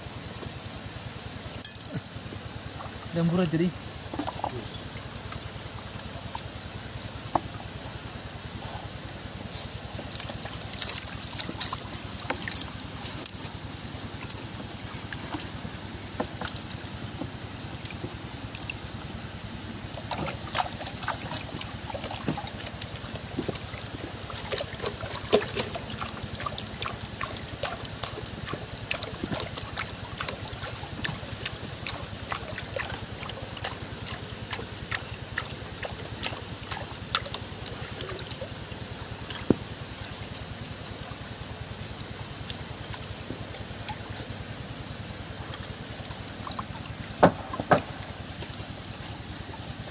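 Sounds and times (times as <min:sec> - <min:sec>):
steady low hum: 0:00.0 - 0:49.9
water sloshing and trickling: 0:00.0 - 0:49.9
splashes: 0:01.4 - 0:07.8, 0:09.3 - 0:49.9.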